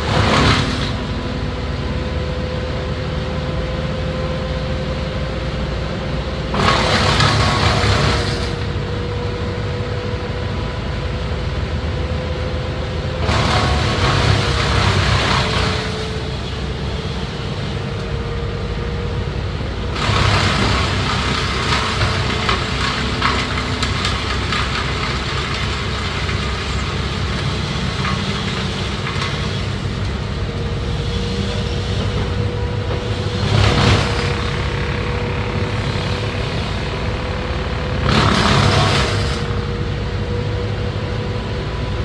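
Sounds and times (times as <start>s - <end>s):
tree-cutting machine engine running: 0.0s - 42.0s.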